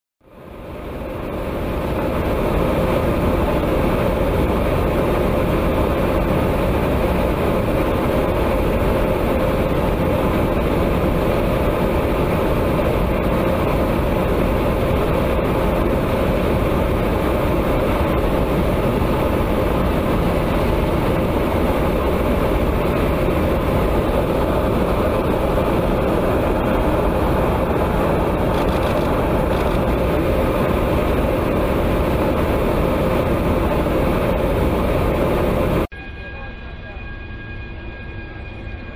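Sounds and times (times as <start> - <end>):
aircraft engines and rushing air: 0.2 - 38.9
constant mid-pitched hum: 0.3 - 38.9.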